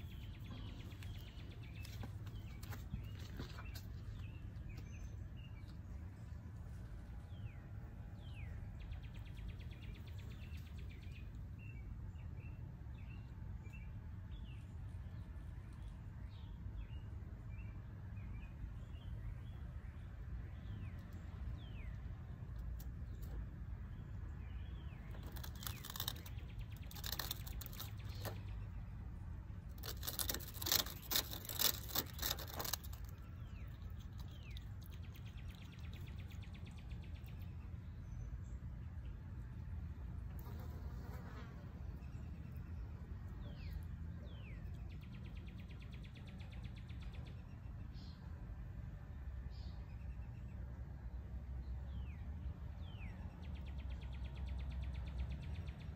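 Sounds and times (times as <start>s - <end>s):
low outdoor rumble: 0.0s - 55.9s
small birds chirping: 0.0s - 55.9s.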